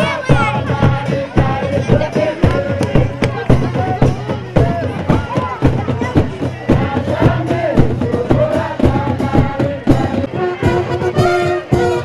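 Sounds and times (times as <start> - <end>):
crowd singing in chorus: 0.0 - 12.0
steady drumbeats: 0.0 - 12.0.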